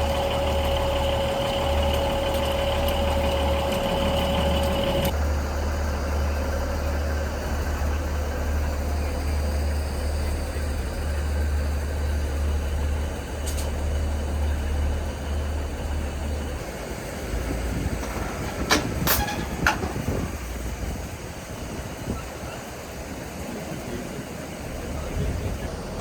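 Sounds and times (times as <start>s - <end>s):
diesel train engine idling: 0.0s - 26.0s.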